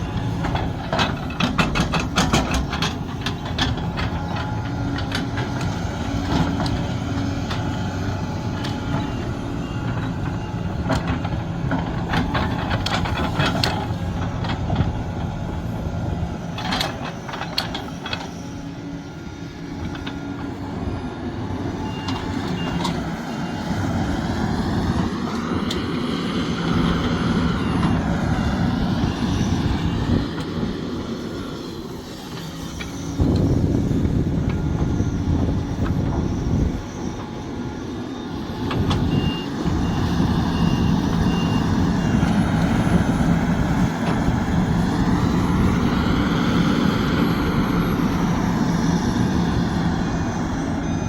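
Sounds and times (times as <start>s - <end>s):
excavator diesel engine running: 0.0s - 51.0s
hydraulic whine: 0.0s - 51.0s.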